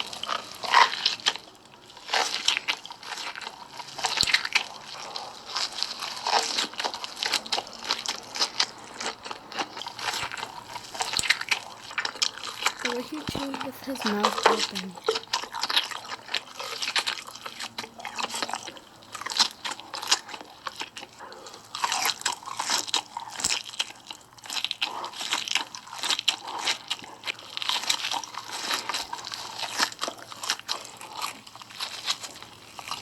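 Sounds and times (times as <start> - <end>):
person chewing crunchy snacks: 0.0 - 33.0.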